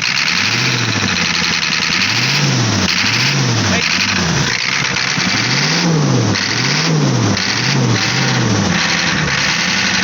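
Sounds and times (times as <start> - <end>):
diesel engine revving and idling: 0.0 - 10.0.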